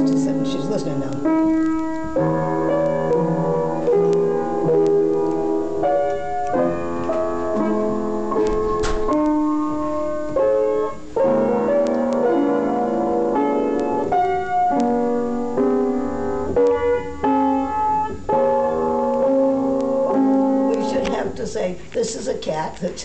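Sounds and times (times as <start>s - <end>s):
slow piano melody: 0.0s - 22.0s.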